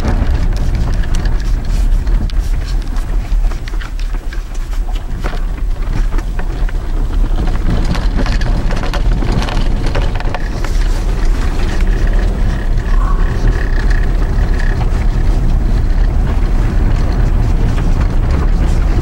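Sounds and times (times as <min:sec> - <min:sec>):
snow and ice crackling under wheels: 0:00.0 - 0:19.0
tyres rumbling on road: 0:00.0 - 0:19.0.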